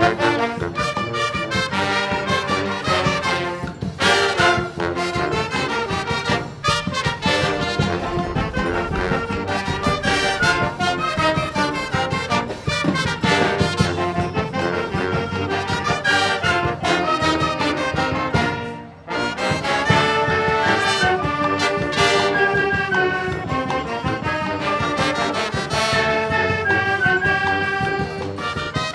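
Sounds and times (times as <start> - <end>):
percussion beat: 0.0 - 28.9
trumpets and trombones: 0.0 - 28.9.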